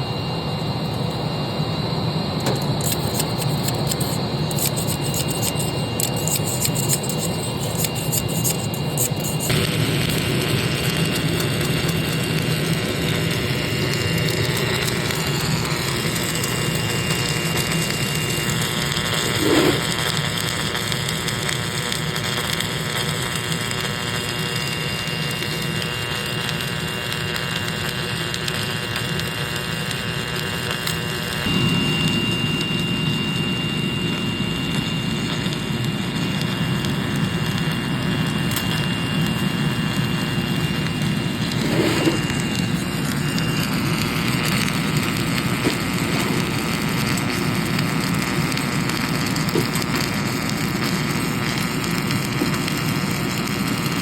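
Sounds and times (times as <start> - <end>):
high machine whine: 0.0 - 54.0
machine hiss and rumble: 0.0 - 54.0.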